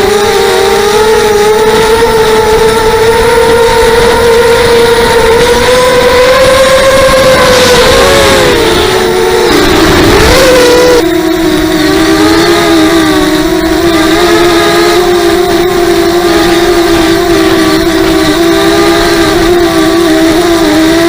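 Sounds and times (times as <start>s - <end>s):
wind howling: 1.2s - 19.8s.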